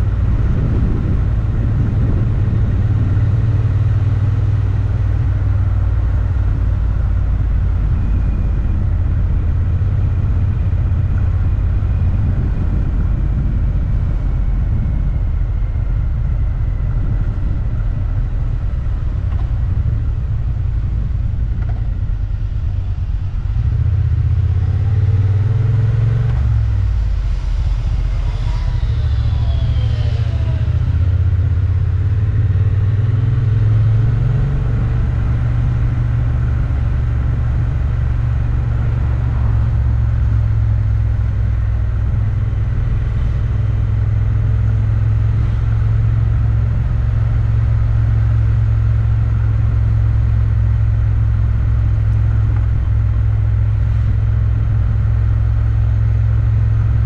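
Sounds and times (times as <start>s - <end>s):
motorcycle engine and road rumble: 0.0s - 57.0s.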